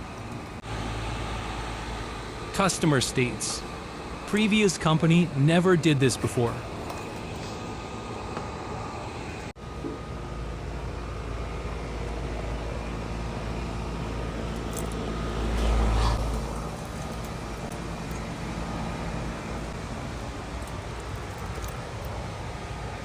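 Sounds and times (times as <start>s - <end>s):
low machine rumble with hum: 0.0s - 23.0s.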